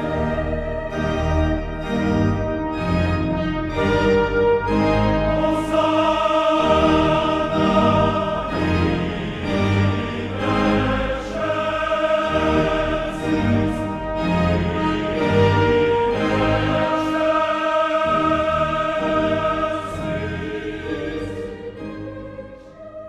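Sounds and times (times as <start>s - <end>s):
choir singing: 0.0s - 23.0s
orchestra playing: 0.0s - 23.0s.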